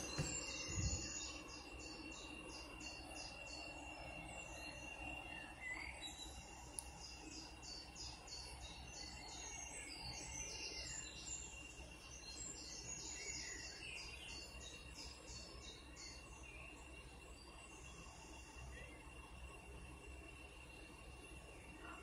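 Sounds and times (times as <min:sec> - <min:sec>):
thin steady high tone: 0:00.0 - 0:22.0.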